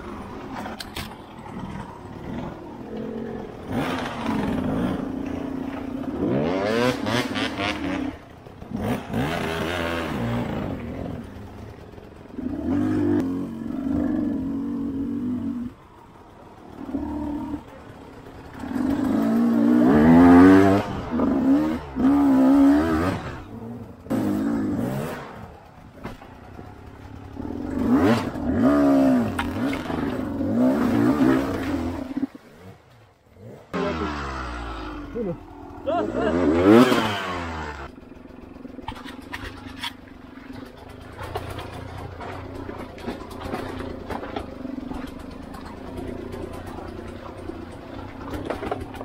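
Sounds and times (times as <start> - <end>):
dirt bike engine revving: 1.3 - 49.0.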